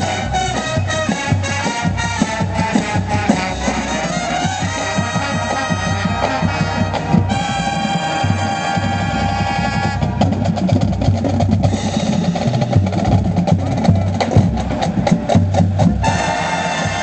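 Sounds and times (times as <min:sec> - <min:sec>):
marching band wind chord: 0:00.0 - 0:17.0.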